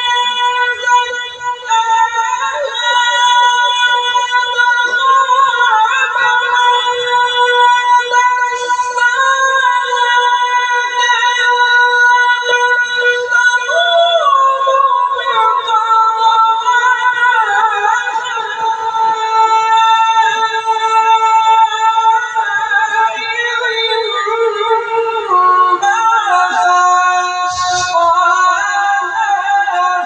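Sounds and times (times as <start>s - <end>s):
person chanting melodically: 0.0s - 30.0s.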